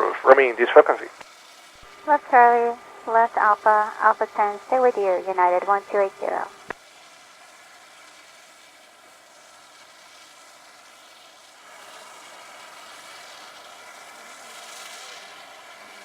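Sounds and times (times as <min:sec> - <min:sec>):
jet engines with whine: 0:00.0 - 0:16.0.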